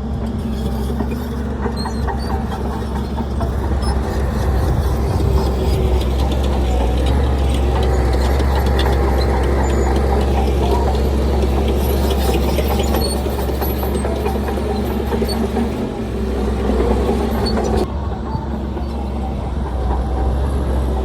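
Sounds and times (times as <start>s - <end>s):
heavy diesel engine droning: 0.0s - 21.0s
machinery clanks and rattles: 0.0s - 21.0s.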